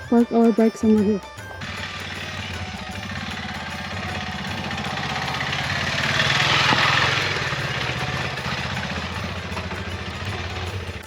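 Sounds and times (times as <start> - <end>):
motorcycle engine running: 1.6 - 11.0.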